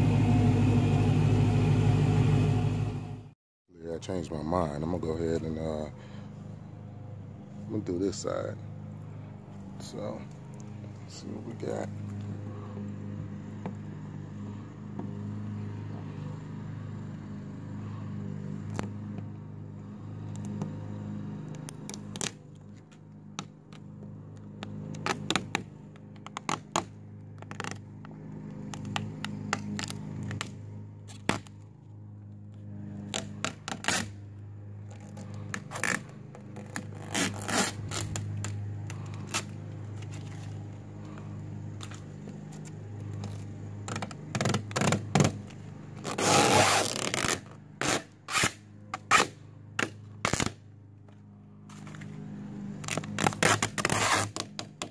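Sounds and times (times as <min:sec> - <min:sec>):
steady low hum: 0:00.0 - 0:54.2.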